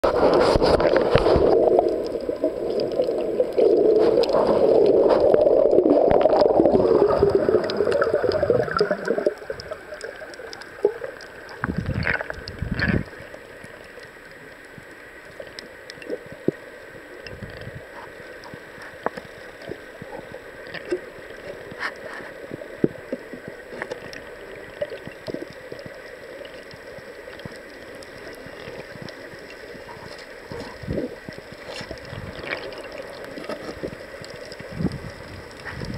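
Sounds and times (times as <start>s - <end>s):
steady underwater hiss: 0.0s - 35.9s
underwater gurgling and bubbling: 0.0s - 35.9s.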